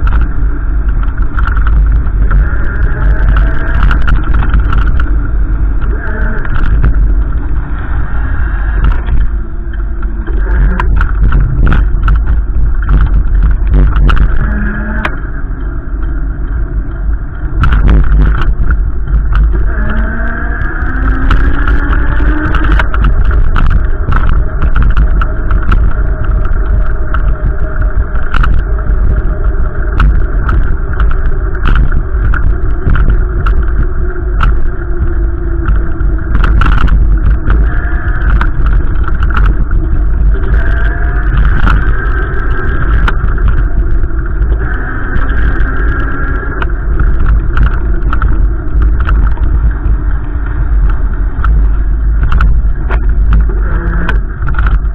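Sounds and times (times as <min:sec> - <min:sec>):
vehicle engine revving: 0:00.0 - 0:54.9
wind rumble on microphone: 0:00.0 - 0:54.9.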